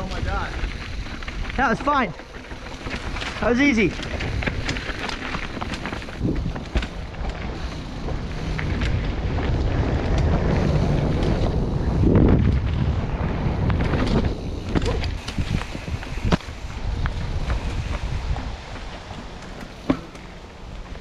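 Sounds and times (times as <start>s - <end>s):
wind rushing over microphone: 0.0s - 19.8s
bike clattering: 0.0s - 21.0s
bike tyres rolling over dirt: 0.0s - 21.0s.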